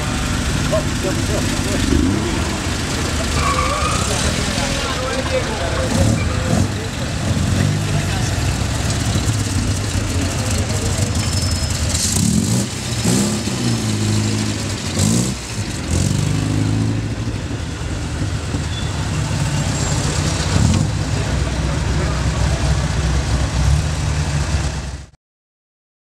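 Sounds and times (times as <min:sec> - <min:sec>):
car engines at low revs: 0:00.0 - 0:25.1.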